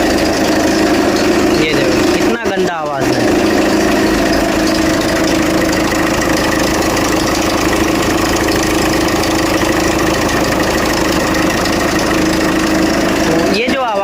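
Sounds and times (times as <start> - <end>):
car engine idling: 0.0 - 14.0
mechanical noise from engine: 0.0 - 14.0.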